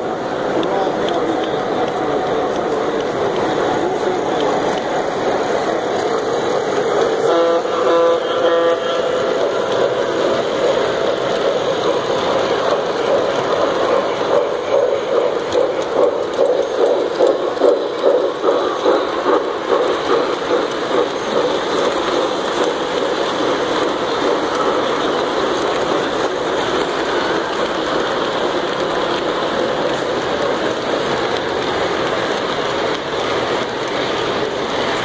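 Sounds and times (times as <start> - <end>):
model train motor hum: 0.0 - 35.0
wheels rattling on track: 0.0 - 35.0.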